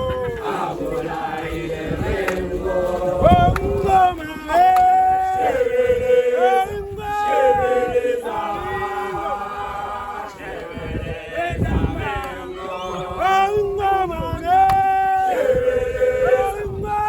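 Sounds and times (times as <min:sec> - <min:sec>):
men singing a chant: 0:00.0 - 0:17.0.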